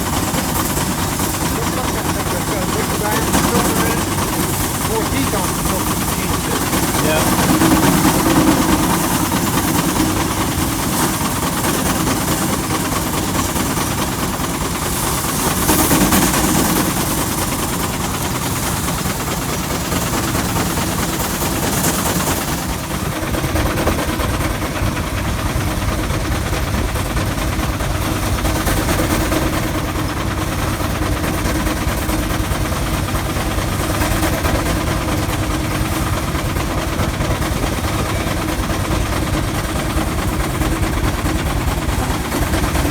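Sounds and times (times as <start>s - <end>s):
tractor engine running under load: 0.0s - 42.9s.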